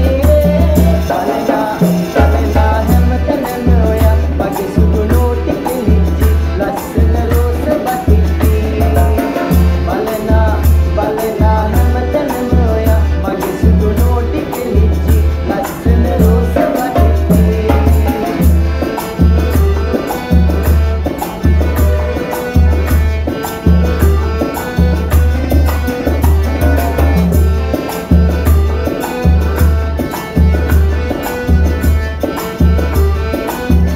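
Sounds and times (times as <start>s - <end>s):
accordion melody: 0.0s - 33.9s
bongos: 0.0s - 33.9s
steady low beat: 1.8s - 33.9s.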